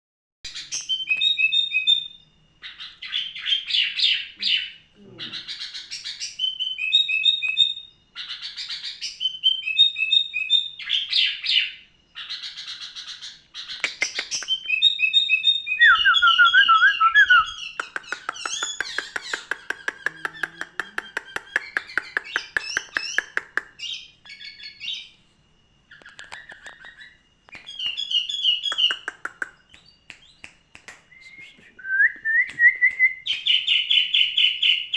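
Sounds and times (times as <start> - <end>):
songbird singing: 0.5 - 34.9.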